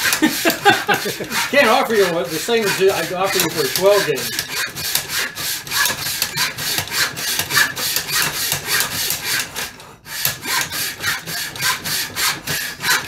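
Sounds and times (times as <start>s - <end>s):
hand saw cutting wood: 0.0s - 13.0s.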